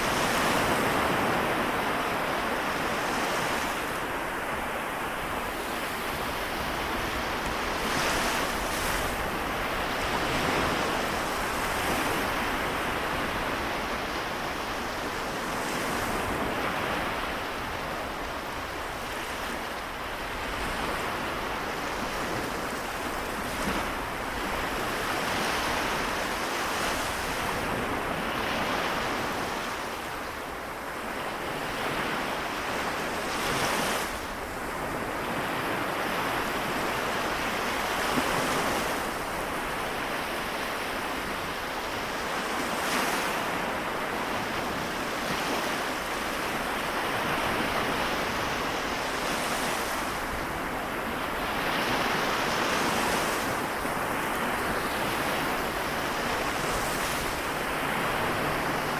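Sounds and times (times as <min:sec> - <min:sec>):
small waves washing on shore: 0:00.0 - 0:58.9
wind on microphone: 0:00.0 - 0:58.9.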